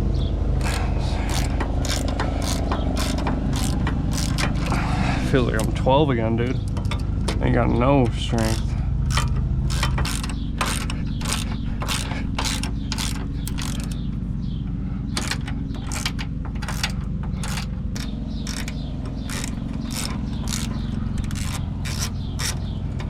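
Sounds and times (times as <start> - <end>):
steady low hum: 0.0 - 23.0
hand ratchet clicking: 0.6 - 4.8, 6.6 - 7.4, 8.4 - 14.1, 15.1 - 23.0.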